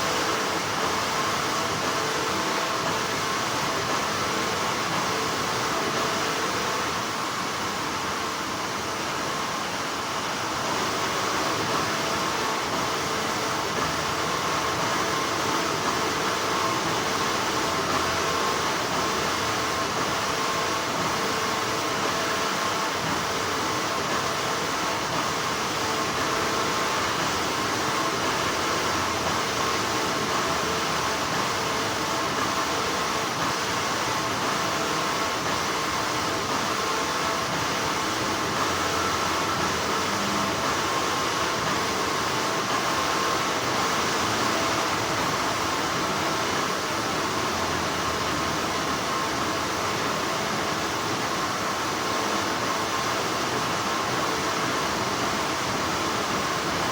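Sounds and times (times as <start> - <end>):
factory machinery hum: 0.0 - 56.9.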